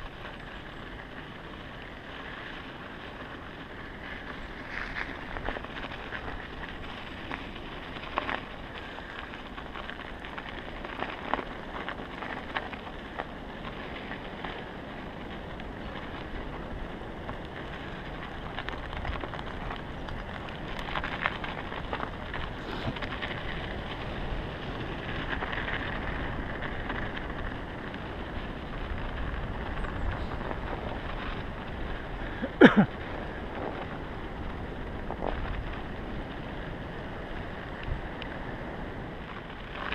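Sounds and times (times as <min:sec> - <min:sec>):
bike clicks and rattles: 0:00.0 - 0:39.9
bike tyres rolling over snow: 0:00.0 - 0:39.9.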